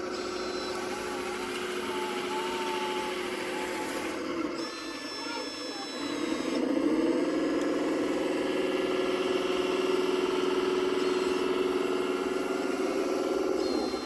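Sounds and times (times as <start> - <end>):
model machine mechanical hum: 0.0 - 14.0.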